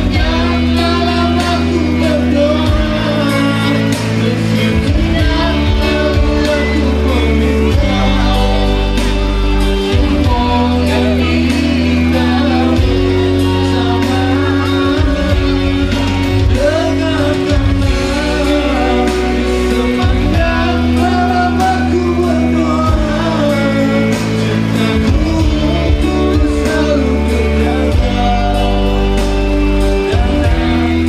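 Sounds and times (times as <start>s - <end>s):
amplified band music: 0.0s - 31.0s
man singing through microphone: 0.0s - 31.0s.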